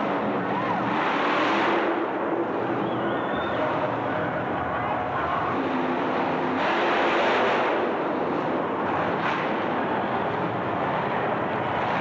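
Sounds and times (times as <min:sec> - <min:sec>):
racing truck engine running hard: 0:00.0 - 0:12.0.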